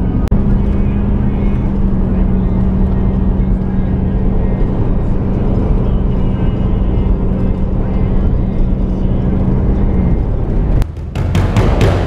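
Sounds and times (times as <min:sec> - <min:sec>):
car road and engine noise: 0:00.0 - 0:12.0
low drone: 0:00.0 - 0:12.0.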